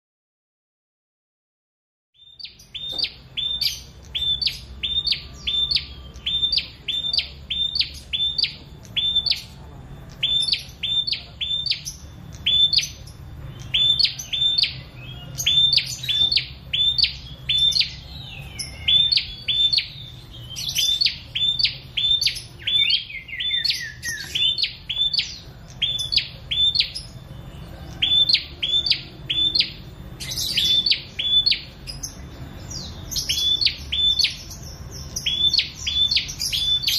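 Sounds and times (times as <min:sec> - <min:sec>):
bird chirping: 0:02.2 - 0:36.9.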